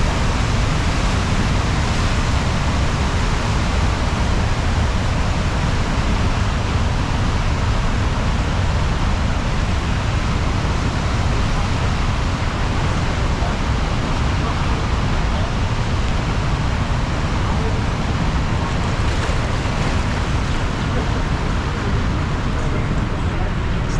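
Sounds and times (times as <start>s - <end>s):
waterfall rushing with deep rumble: 0.0s - 23.9s.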